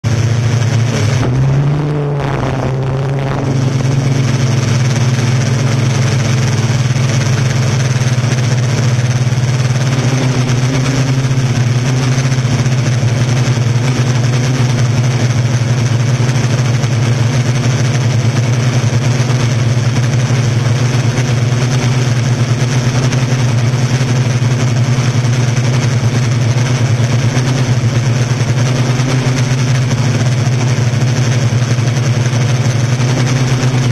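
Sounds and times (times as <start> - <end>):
drone propellers humming: 0.0 - 33.9.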